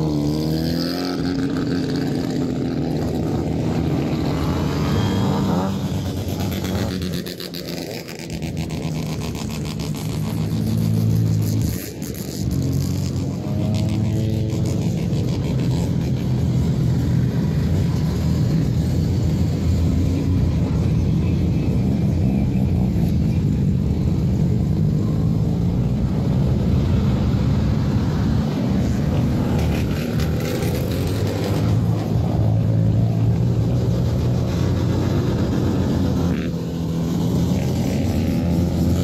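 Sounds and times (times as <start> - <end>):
car engines rumbling past: 0.0 - 39.0.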